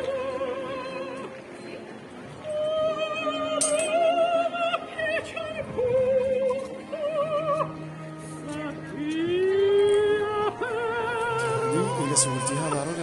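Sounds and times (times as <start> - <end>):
operatic singing: 2.4 - 13.0.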